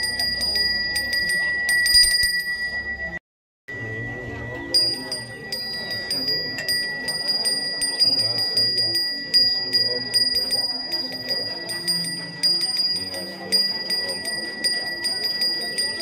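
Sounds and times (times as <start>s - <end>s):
hand bell ringing: 0.0s - 3.2s, 4.7s - 16.0s.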